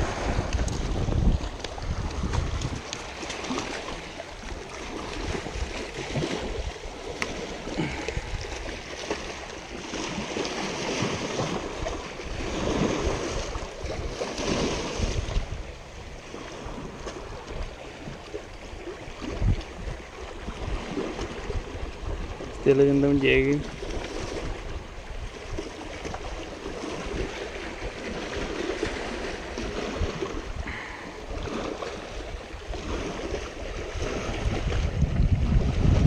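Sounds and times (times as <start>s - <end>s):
wind gusting over microphone: 0.0s - 17.7s, 19.2s - 36.0s
small waves splashing on rocks: 0.0s - 36.0s.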